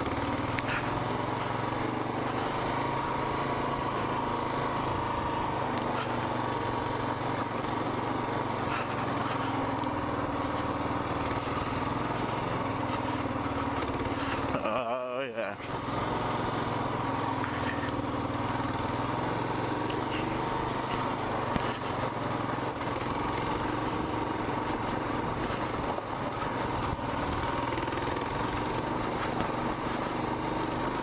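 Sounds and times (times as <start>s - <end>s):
motorcycle engine climbing trail: 0.0s - 31.0s.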